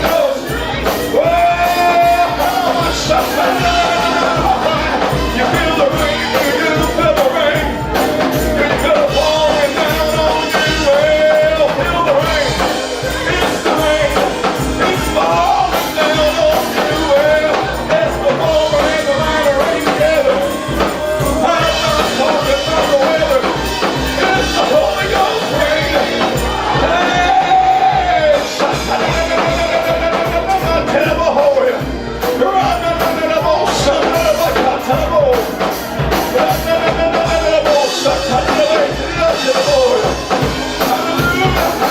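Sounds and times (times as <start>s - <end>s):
band playing steady beat: 0.0s - 41.9s
person singing: 0.0s - 41.9s.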